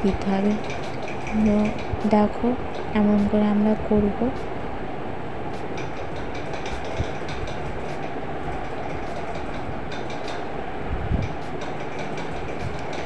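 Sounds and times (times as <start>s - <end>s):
steady low rumbling: 0.0s - 13.0s.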